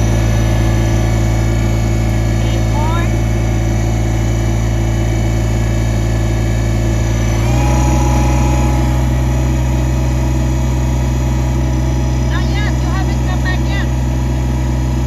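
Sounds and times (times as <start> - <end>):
steady whine: 0.0 - 15.0
tractor diesel engine running: 0.0 - 15.0.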